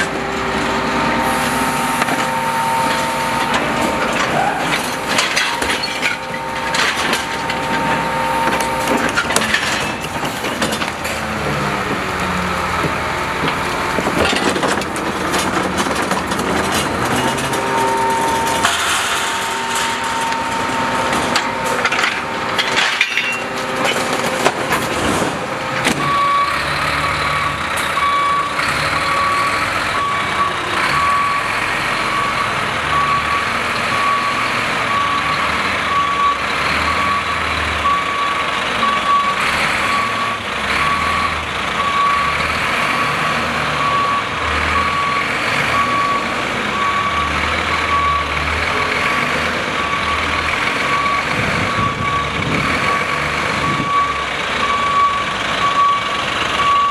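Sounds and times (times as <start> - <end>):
garbage truck mechanical noise: 0.0 - 56.9
truck engine running: 0.0 - 56.9
reversing alarm beeping: 0.1 - 10.3, 17.0 - 24.4, 25.4 - 56.9.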